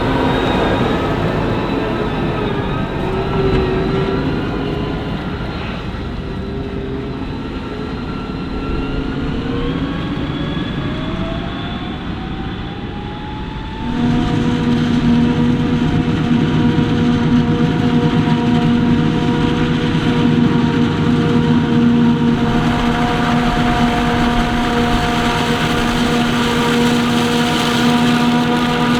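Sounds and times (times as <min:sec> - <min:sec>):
diesel engine drone: 0:00.0 - 0:28.9.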